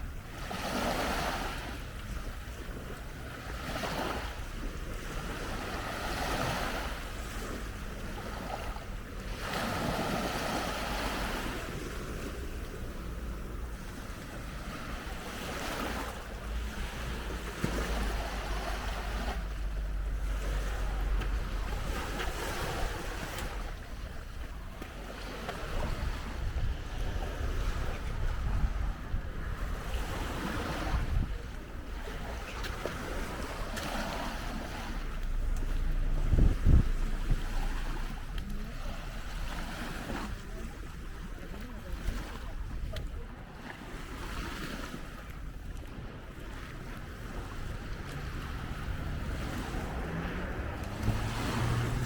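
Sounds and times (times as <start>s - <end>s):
small waves washing onto sand: 0.0s - 52.0s
wind rumbling on microphone: 0.0s - 52.0s.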